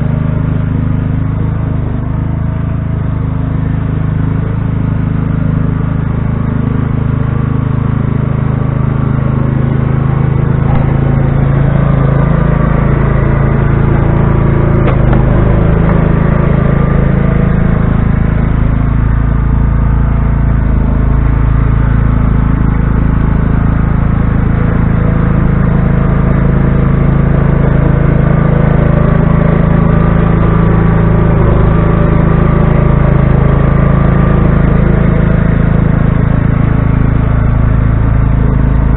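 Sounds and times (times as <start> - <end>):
small gasoline engine drone: 0.0 - 38.9.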